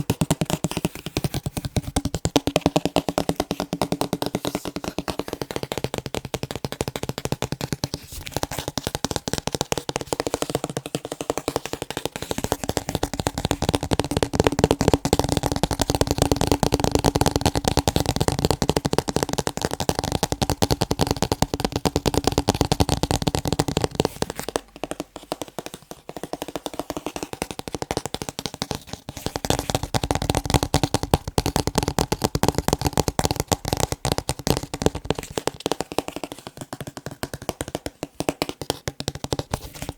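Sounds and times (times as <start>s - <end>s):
rapid tapping on picture frames: 0.0s - 39.9s.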